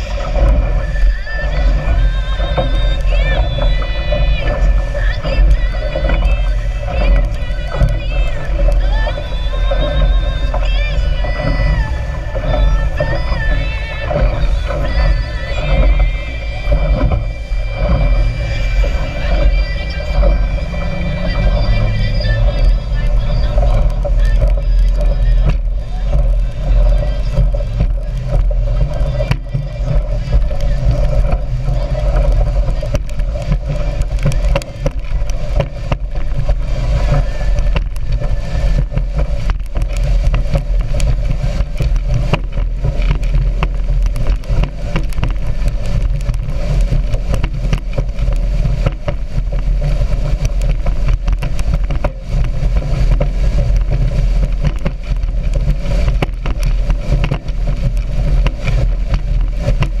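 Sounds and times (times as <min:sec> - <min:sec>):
faint voices: 0:00.0 - 1:00.0
speedboat engine running: 0:00.0 - 1:00.0
wind rumble on microphone: 0:00.0 - 1:00.0.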